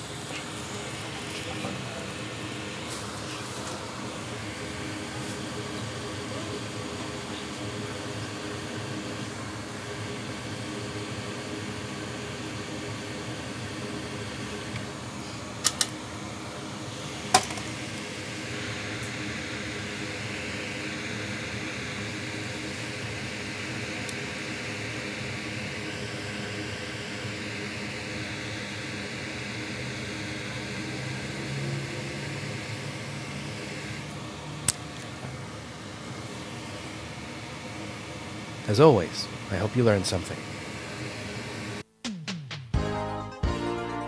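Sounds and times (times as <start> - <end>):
fan whirring: 0.0 - 42.0.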